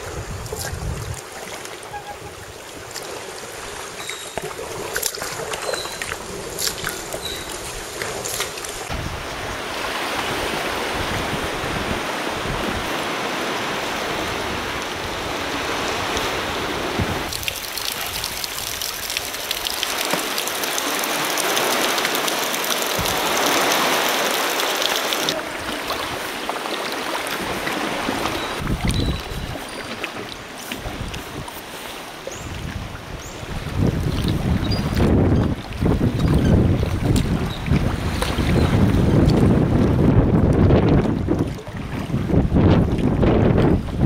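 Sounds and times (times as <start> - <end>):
water splashing around kayak: 0.0 - 44.0.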